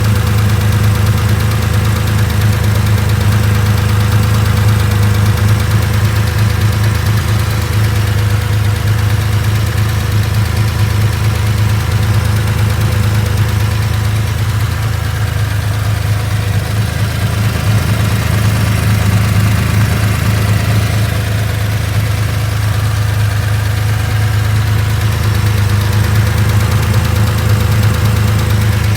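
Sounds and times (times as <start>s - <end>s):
engine idling: 0.0s - 28.9s
engine ticking: 0.0s - 28.9s.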